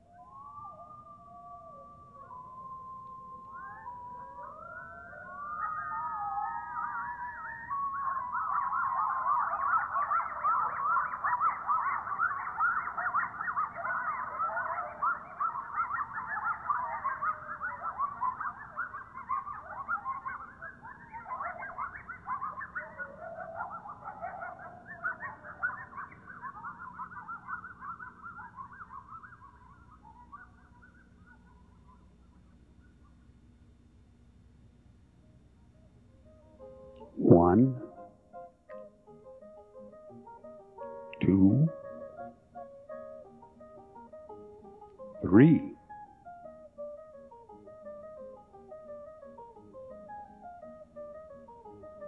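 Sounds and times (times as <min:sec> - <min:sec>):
coyotes howling and yipping: 0:00.0 - 0:33.8, 0:35.2 - 0:52.0.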